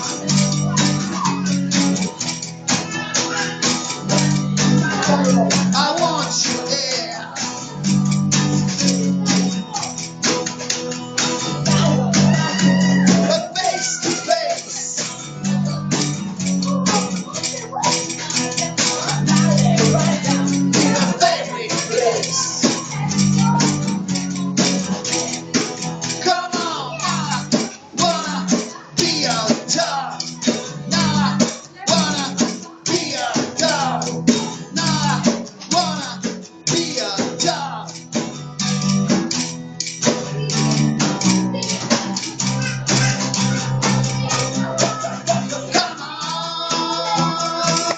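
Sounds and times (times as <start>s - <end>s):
electric bass riff: 0.0s - 47.9s
steady percussive beat: 0.0s - 47.9s.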